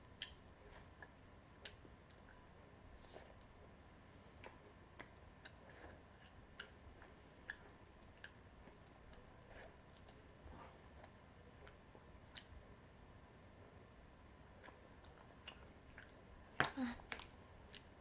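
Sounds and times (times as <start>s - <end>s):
soft chewing: 0.1s - 12.9s, 13.5s - 18.0s.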